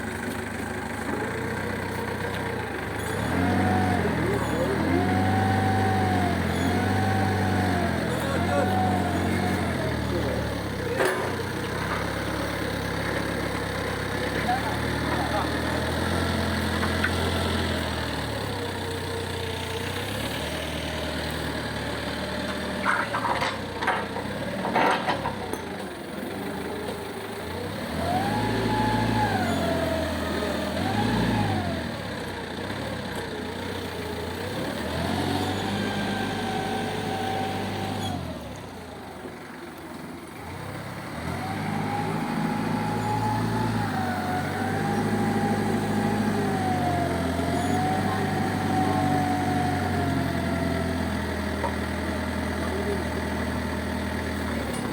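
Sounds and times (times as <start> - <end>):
forklift engine revving: 0.0 - 54.9.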